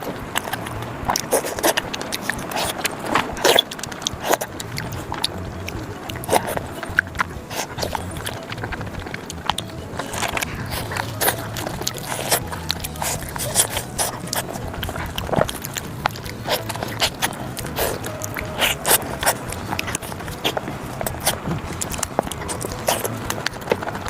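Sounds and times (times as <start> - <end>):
crisp biting clicks: 0.0 - 24.0
wet chewing: 0.0 - 24.0.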